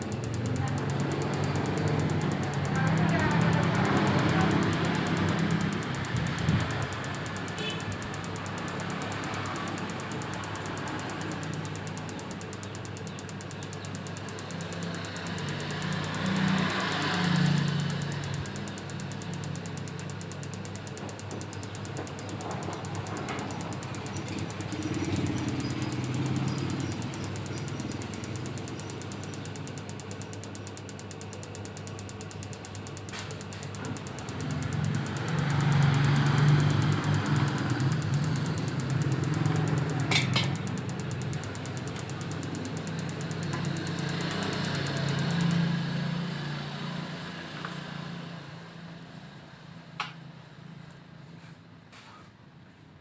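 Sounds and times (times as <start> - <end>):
sharp click: 0.0 - 46.1
fast ticking: 0.0 - 46.3
machine humming and rattling: 0.0 - 48.0.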